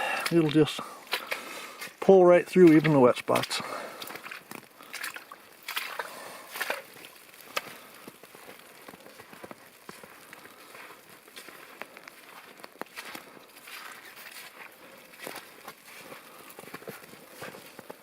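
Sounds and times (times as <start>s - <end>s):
footsteps sloshing through bog: 0.0s - 18.0s
small crackles and clicks: 0.1s - 18.0s.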